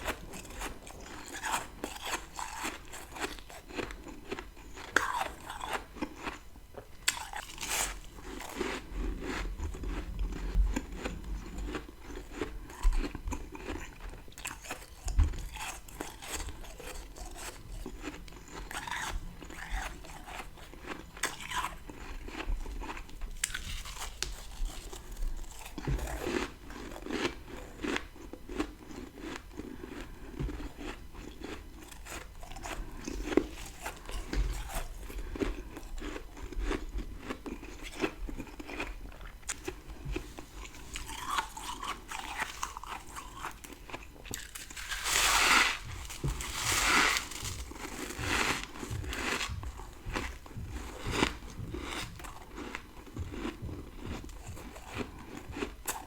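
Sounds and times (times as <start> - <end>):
crunching frost being chewed: 0.0 - 56.0.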